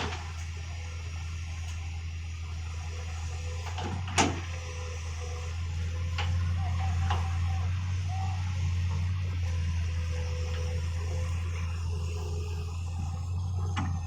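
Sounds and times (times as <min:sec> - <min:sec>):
excavator engine droning: 0:00.0 - 0:14.0.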